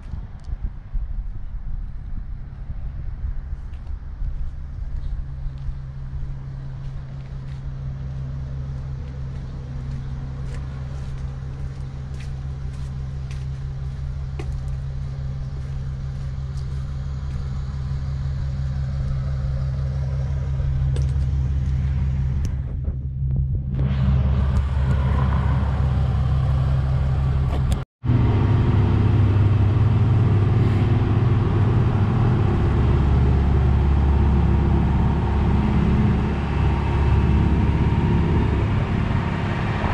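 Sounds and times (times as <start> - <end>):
diesel truck engine rumbling: 2.6 - 39.9.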